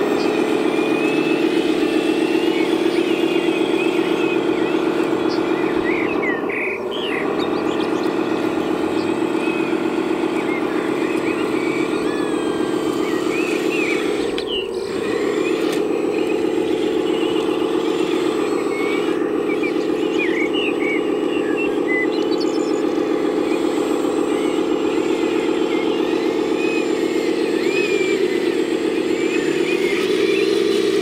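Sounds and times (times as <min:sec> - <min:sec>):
electric motor whine: 0:00.0 - 0:31.0.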